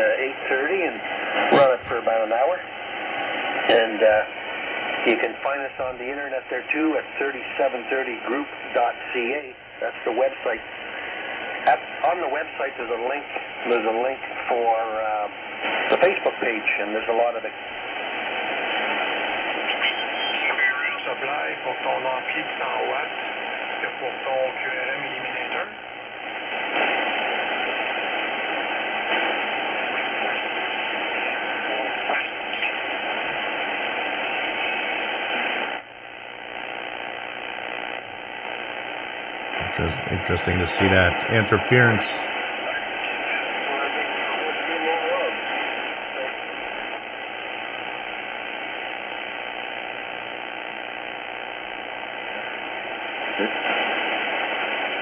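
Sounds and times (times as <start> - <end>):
radio static hiss: 0.0 - 55.0.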